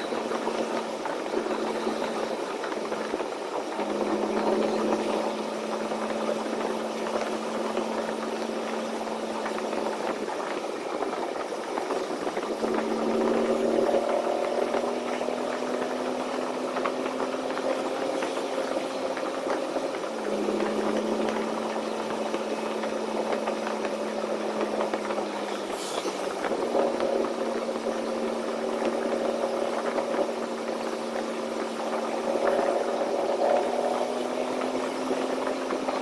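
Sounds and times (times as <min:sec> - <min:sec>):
truck engine droning: 0:00.0 - 0:36.0.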